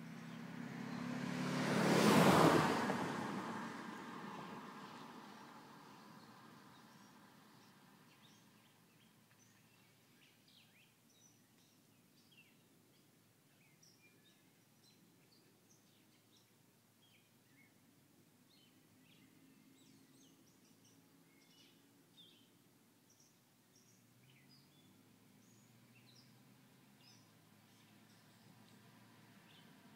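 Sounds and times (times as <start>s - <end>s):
faint birds chirping: 3.9s - 29.9s.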